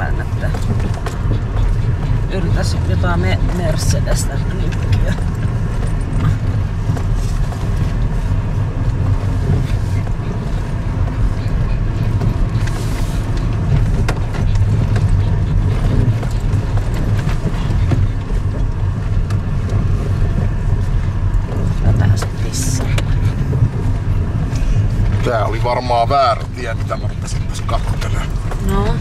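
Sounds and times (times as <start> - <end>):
car engine and tyre rumble: 0.0 - 29.0
knocks and rattles over bumps: 0.0 - 29.0.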